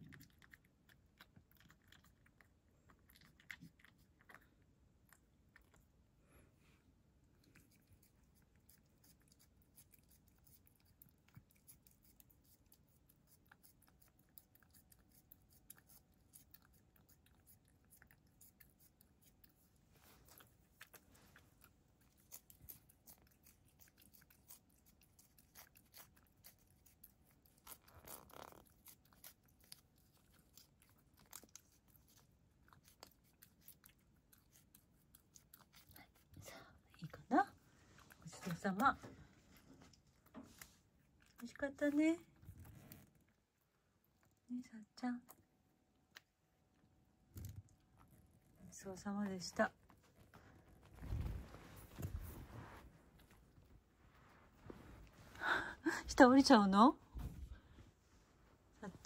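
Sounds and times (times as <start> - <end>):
cat licking and chewing: 0.0 - 56.6.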